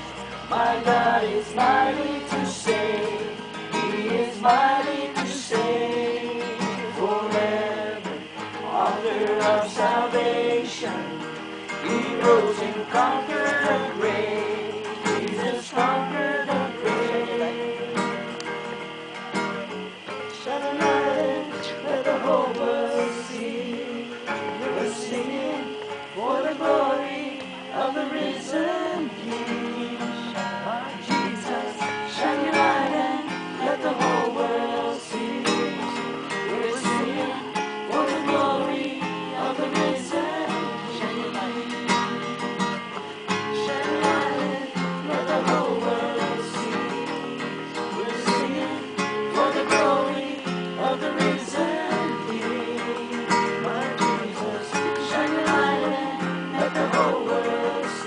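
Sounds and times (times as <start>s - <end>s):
acoustic guitar strumming: 0.0s - 58.0s
people singing worship song: 0.0s - 58.0s.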